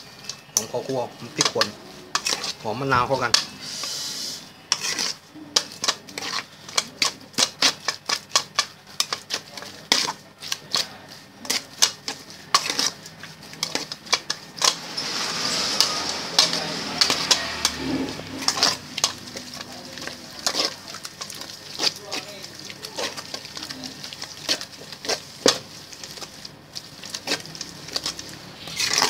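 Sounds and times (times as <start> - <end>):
spoon scraping metal pot: 0.1 - 26.3, 27.0 - 29.0.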